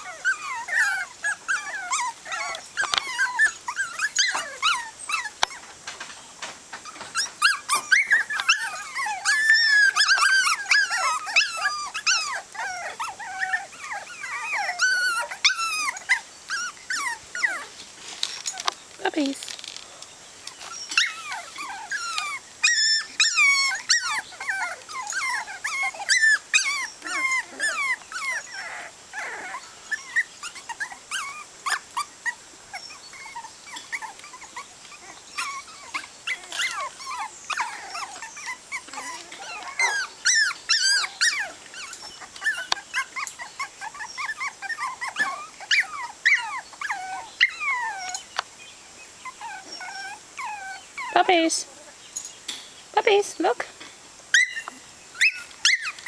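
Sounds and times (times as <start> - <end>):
puppies whimpering and crying: 0.0 - 19.6, 20.4 - 52.0, 53.0 - 56.0.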